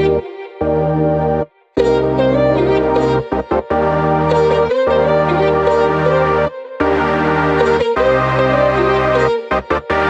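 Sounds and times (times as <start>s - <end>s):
music of sustained notes: 0.0s - 10.0s.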